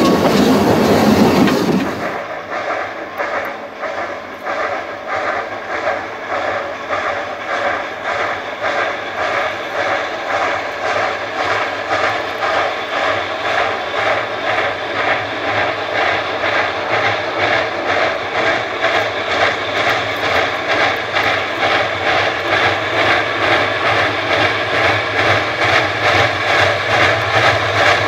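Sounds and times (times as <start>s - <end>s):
steam hissing: 0.0s - 28.0s
steam locomotive chuffing: 0.0s - 28.0s.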